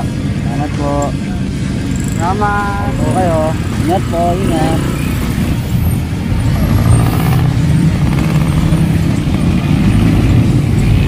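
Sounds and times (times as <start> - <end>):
street traffic: 0.0 - 11.0
vehicle engine running: 0.0 - 11.0.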